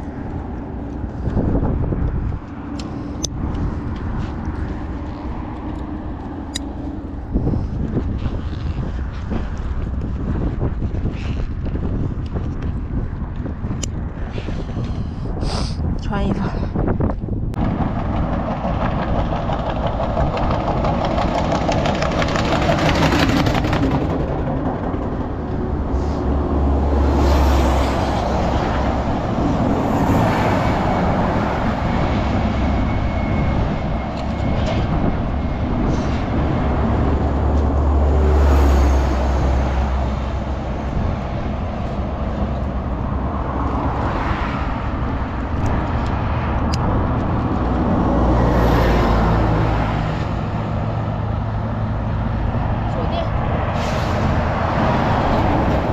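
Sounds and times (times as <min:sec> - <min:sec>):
low road rumble: 0:00.0 - 0:55.9
vehicles passing: 0:00.0 - 0:55.9.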